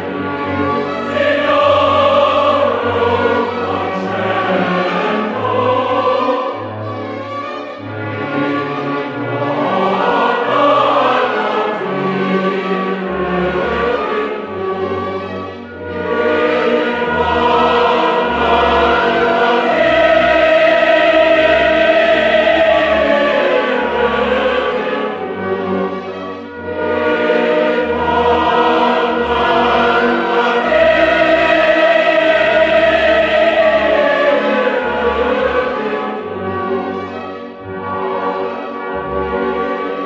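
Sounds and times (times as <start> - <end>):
choir singing long notes: 0.0 - 40.0.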